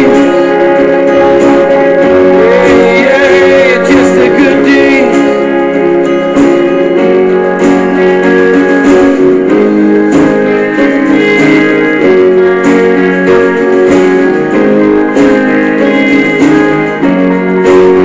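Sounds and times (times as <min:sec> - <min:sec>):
strummed guitar: 0:00.0 - 0:18.0.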